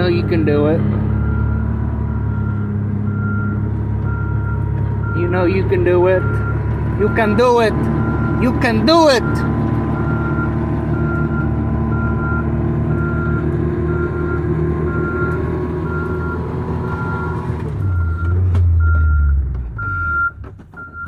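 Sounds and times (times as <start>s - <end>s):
truck engine running under load: 0.0s - 21.0s
reversing alarm beeping: 1.2s - 5.5s, 6.1s - 21.0s.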